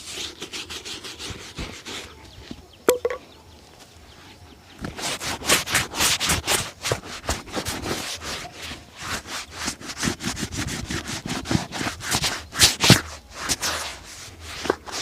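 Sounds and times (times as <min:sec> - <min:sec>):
leather shoe being rubbed: 0:00.0 - 0:02.6, 0:04.8 - 0:15.0.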